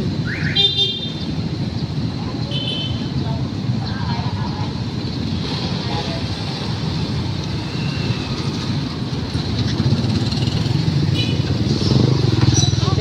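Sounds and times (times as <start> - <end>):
road noise: 0.0 - 13.0
motorcycle engines running: 0.8 - 13.0.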